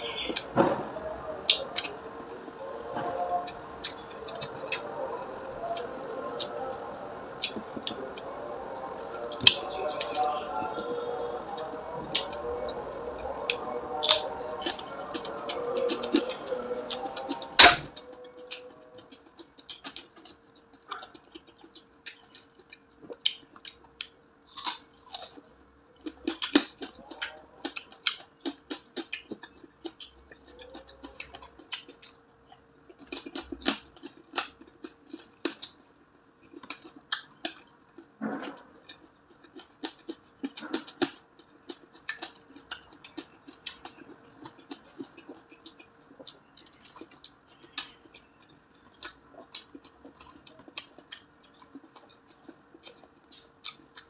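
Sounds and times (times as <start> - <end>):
crispy food crunching: 1.1 - 54.0
chewing and lip smacking: 1.2 - 54.0.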